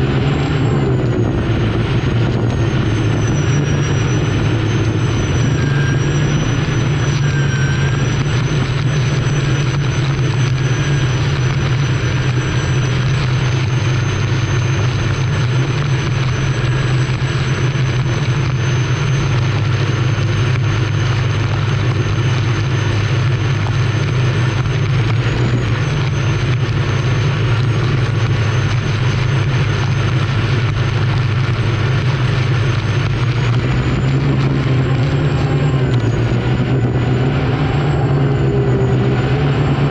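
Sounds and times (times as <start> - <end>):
turbine engine whine and drone: 0.0 - 39.9
water noise: 0.0 - 39.9
wind noise: 0.0 - 39.9.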